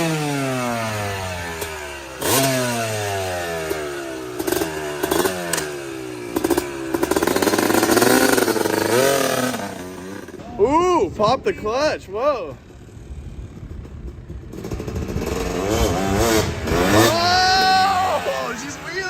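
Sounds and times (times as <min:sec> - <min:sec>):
two-stroke motorcycle engine revving: 0:00.0 - 0:10.4, 0:12.6 - 0:19.0.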